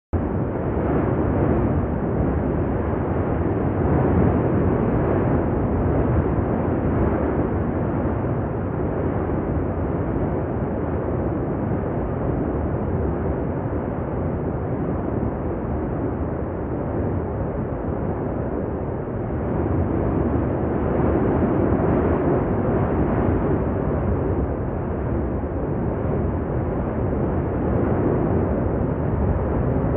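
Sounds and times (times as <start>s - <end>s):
volcano roaring and rumbling: 0.2s - 29.9s.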